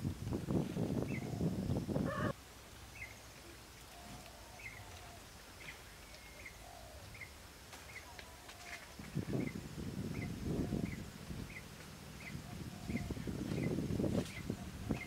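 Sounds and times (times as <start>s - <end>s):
low drawn-out bird calls: 1.0s - 15.0s.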